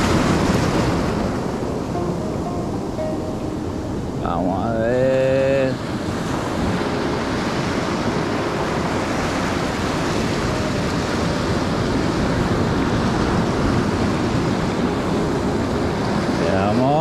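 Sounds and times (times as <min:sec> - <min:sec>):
ocean surf washing on beach: 0:00.0 - 0:17.0
wind: 0:00.0 - 0:17.0.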